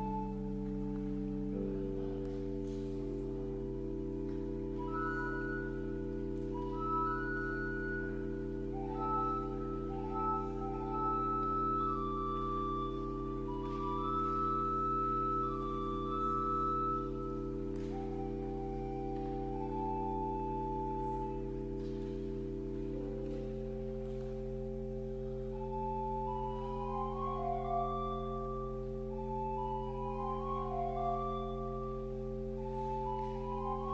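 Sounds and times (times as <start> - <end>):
pipe organ playing: 0.0 - 33.9.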